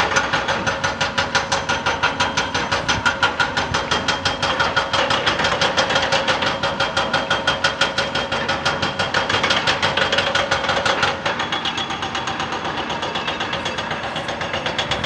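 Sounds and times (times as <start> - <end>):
diesel engine running: 0.0 - 15.0
hydraulic rock breaker hammering: 0.0 - 15.0.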